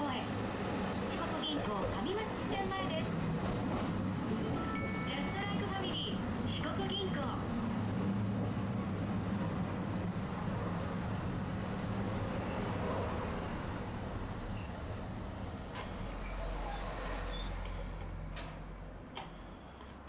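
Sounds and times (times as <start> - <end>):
streetcar motor and wheel hum: 0.0 - 20.0.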